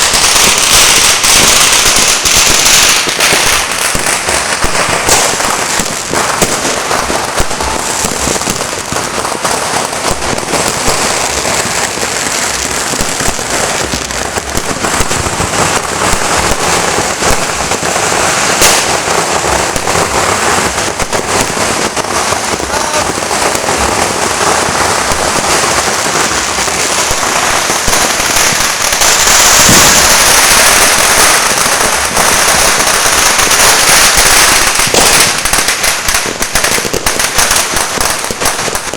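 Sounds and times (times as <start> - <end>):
fireworks and firecrackers popping: 0.0 - 38.9.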